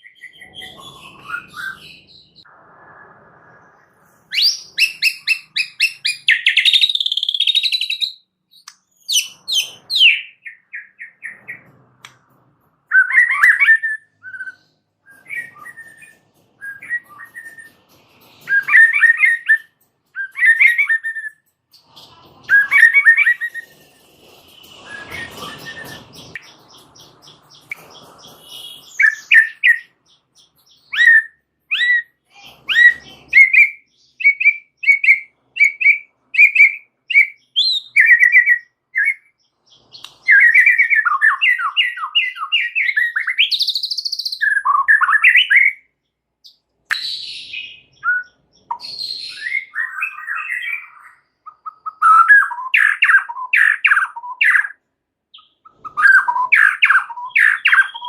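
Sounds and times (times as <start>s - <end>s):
songbird whistling and warbling: 0.0s - 11.7s, 12.9s - 17.8s, 18.4s - 58.0s.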